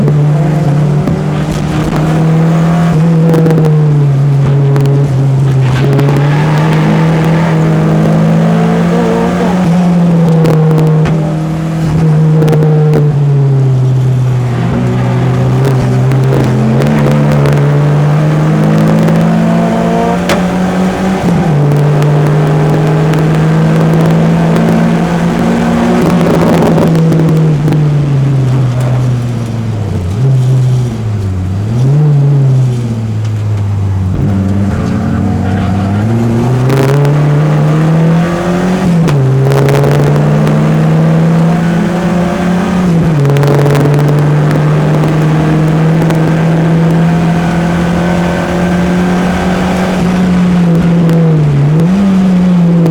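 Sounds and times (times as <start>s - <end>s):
car engine revving on track: 0.0s - 52.9s.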